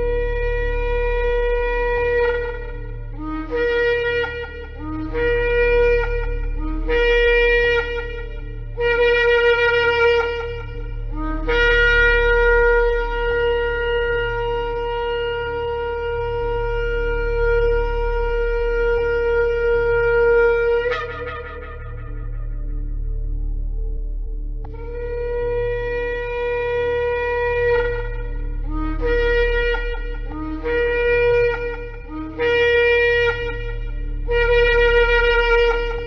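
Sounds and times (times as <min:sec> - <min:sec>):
shofar blasts: 0:00.0 - 0:23.5, 0:24.6 - 0:36.0
steady low drone: 0:00.0 - 0:36.0.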